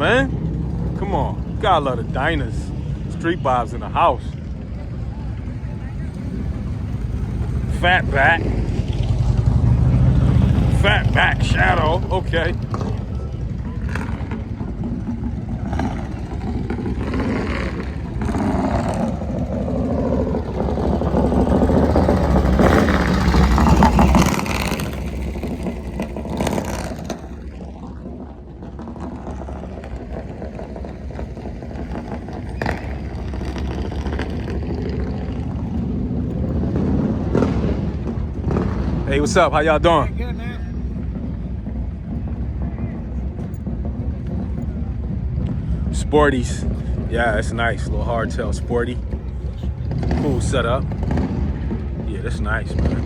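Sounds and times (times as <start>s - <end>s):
motorcycle engine passing: 0.0s - 53.0s
steady background rumble: 0.0s - 53.0s.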